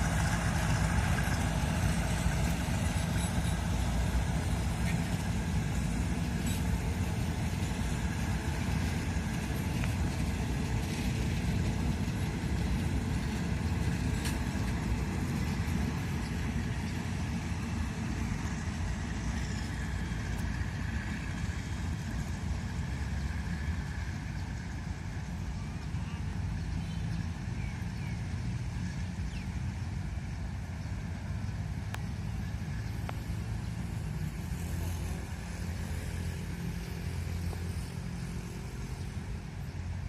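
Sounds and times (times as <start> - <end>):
diesel train engine running: 0.0 - 40.0.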